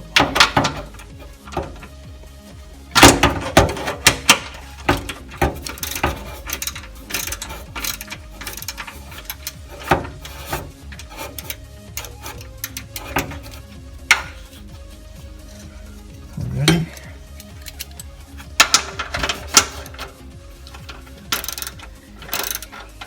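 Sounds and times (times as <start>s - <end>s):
metallic clicks and clanks of tools: 0.0s - 23.0s.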